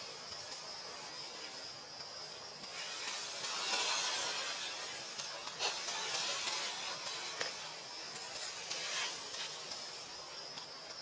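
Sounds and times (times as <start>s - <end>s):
forest background hiss: 0.0s - 11.0s.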